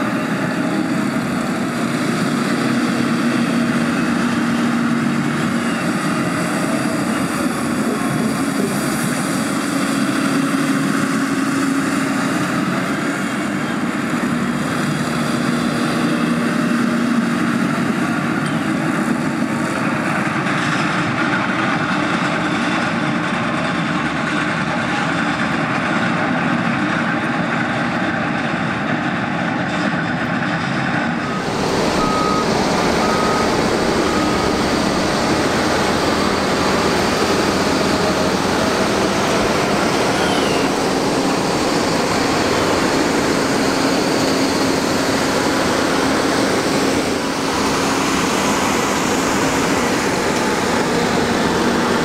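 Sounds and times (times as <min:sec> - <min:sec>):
dump truck diesel engines: 0:00.0 - 0:52.0
truck driving close by: 0:00.0 - 0:52.0.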